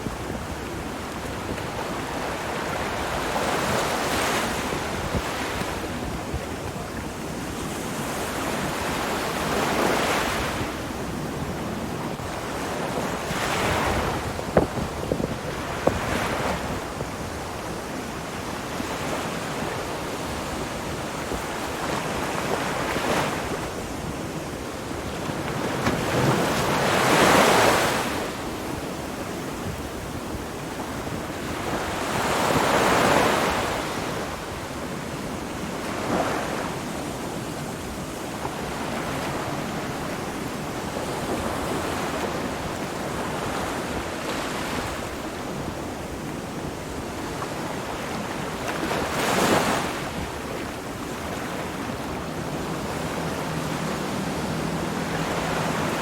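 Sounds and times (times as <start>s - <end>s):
ocean waves washing: 0.0s - 56.0s.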